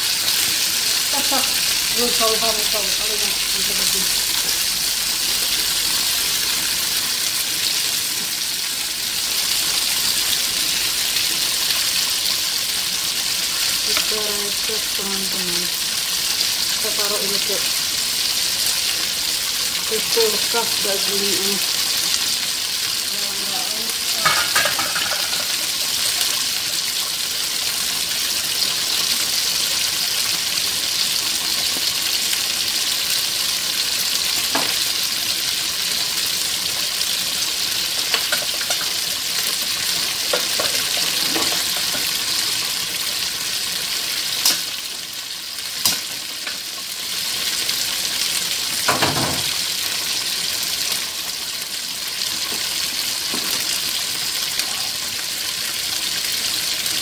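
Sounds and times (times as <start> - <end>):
chicken sizzling in pan: 0.0 - 57.0.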